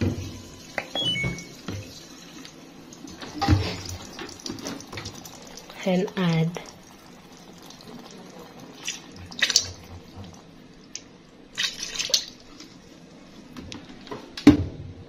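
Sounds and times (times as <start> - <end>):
water dripping into laundry: 0.0 - 12.7.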